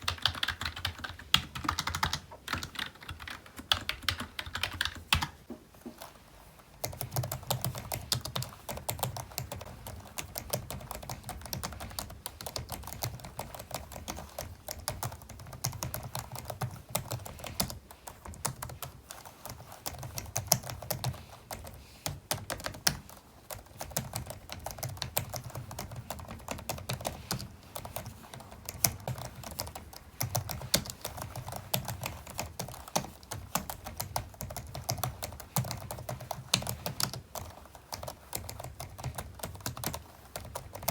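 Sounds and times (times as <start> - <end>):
fast keyboard typing: 0.0 - 6.1, 6.8 - 40.9.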